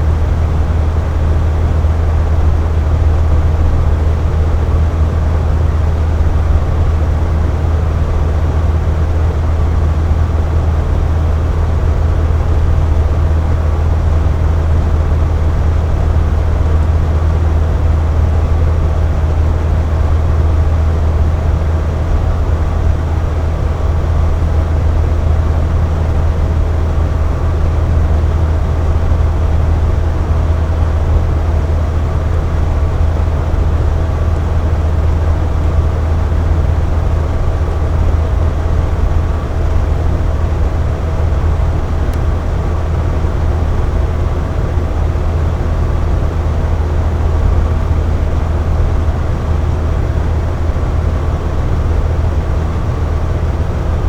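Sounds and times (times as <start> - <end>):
air conditioner hum: 0.0 - 54.0
faint steady whine: 0.0 - 54.0.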